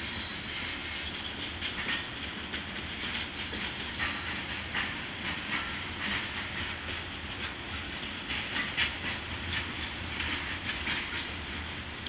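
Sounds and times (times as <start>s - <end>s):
train wheels on rails: 0.0s - 12.0s
wheels clicking over rail joints: 0.0s - 12.0s.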